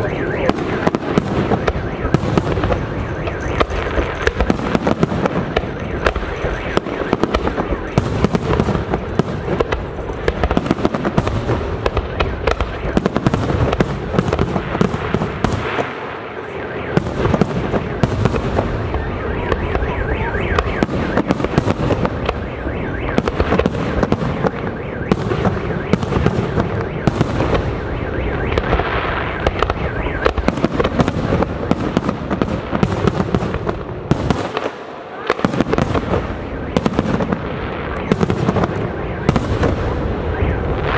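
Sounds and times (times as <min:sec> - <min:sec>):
fireworks bursting: 0:00.0 - 0:40.9.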